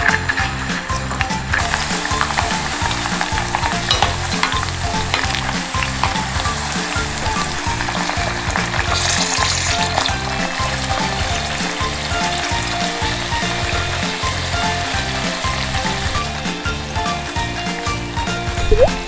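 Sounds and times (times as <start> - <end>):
frying in oil sizzle: 0.0 - 19.0.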